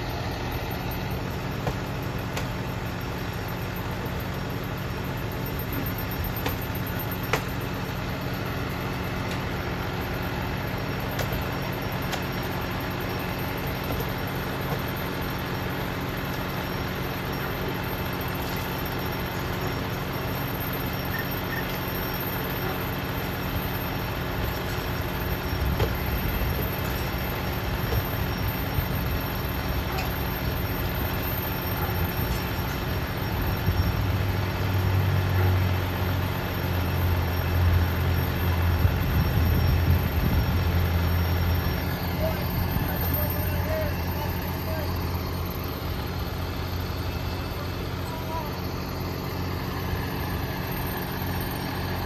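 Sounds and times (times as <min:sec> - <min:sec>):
fire engine idling: 0:00.0 - 0:52.0.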